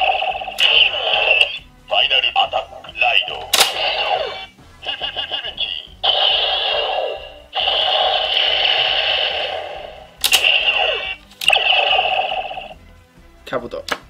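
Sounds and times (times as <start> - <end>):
toy electronic sound effects and music: 0.0 - 12.8.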